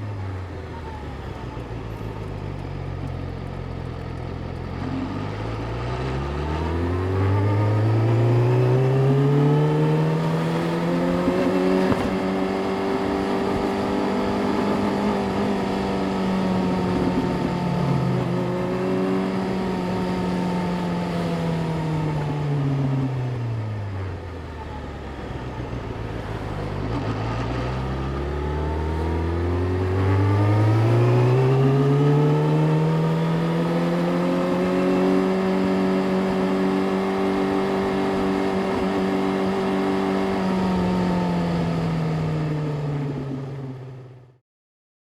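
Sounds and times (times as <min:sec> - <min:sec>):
motorcycle engine revving: 0:01.2 - 0:43.3.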